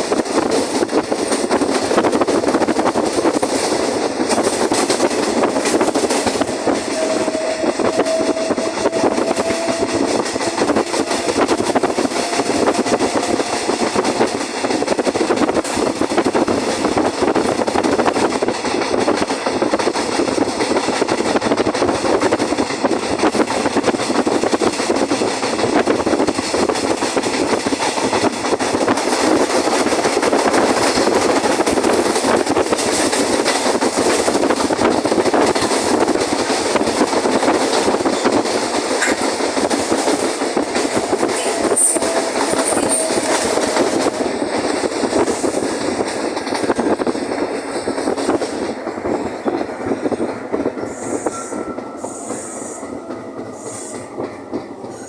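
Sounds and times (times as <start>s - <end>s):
train rolling noise: 0.0s - 55.0s
wheels clicking on rails: 0.0s - 55.0s.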